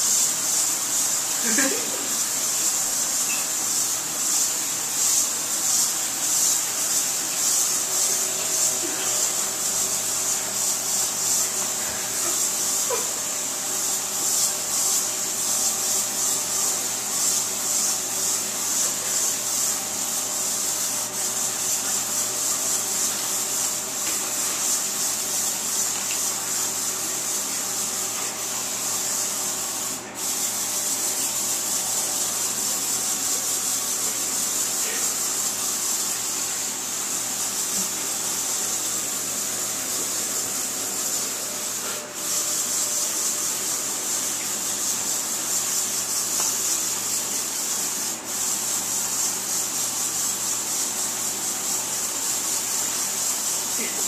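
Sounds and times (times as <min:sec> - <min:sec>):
aerosol can spraying: 0:00.0 - 0:54.0.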